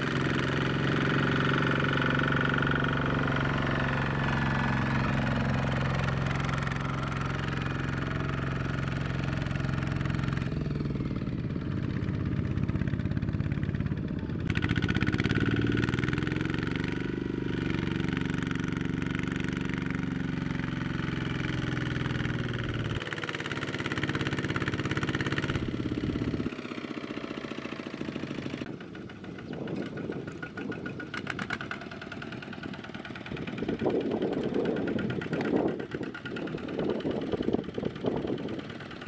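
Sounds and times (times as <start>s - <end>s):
diesel tiller engine running: 0.0s - 39.0s.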